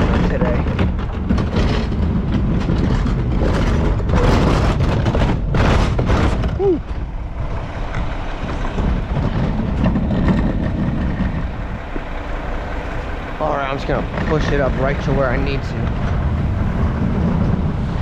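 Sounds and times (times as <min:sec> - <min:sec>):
garbage truck engine rumbling: 0:00.0 - 0:18.0
loud rushing noise: 0:03.5 - 0:18.0.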